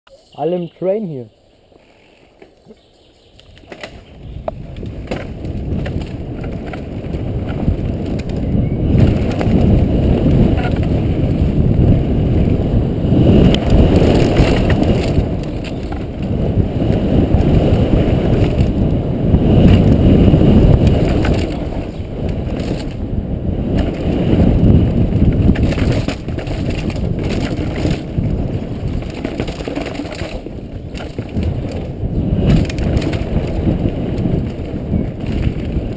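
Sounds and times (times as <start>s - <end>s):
tyres and wind rumbling: 0.1s - 35.9s
bike rattling over bumps: 3.6s - 35.9s.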